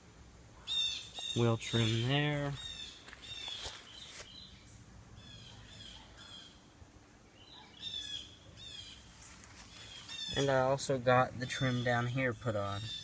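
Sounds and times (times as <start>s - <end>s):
faint outdoor background noise: 0.0s - 13.0s
small birds chirping: 0.4s - 13.0s.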